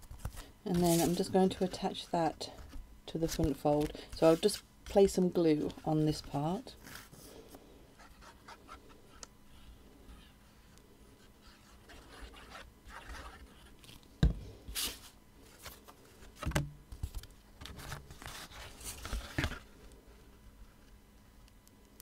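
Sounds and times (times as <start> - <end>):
card stock rustling and scraping: 0.0 - 7.3, 8.0 - 14.1, 14.7 - 19.7.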